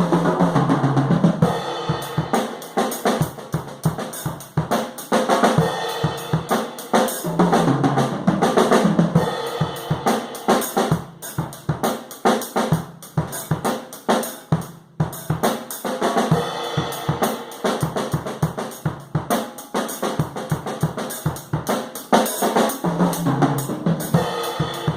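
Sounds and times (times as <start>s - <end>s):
acoustic drum kit groove: 0.0s - 24.9s.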